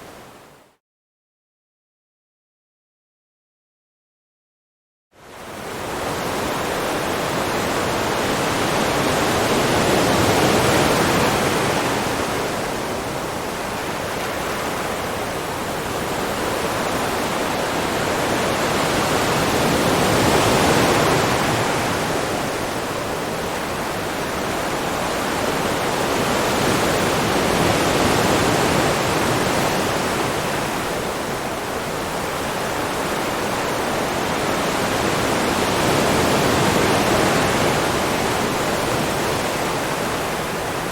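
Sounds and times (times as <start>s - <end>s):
ocean waves breaking on shore: 5.2s - 40.9s.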